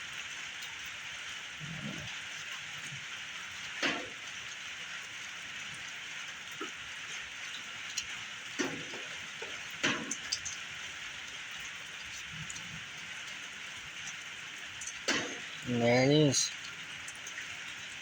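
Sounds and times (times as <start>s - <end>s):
rain-like hiss: 0.0s - 18.0s.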